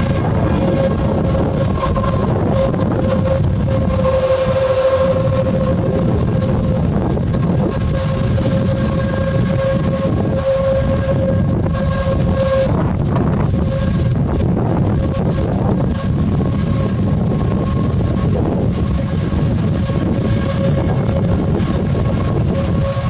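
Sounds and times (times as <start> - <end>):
train rumble: 0.0 - 23.0
wheel flanges squealing: 0.0 - 23.0.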